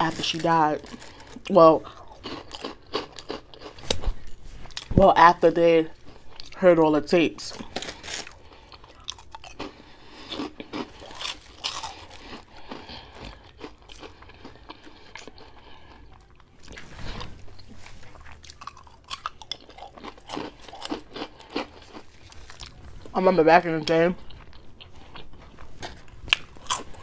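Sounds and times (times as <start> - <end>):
person chewing crunchy food: 0.0 - 4.9, 7.6 - 23.2, 23.8 - 27.0.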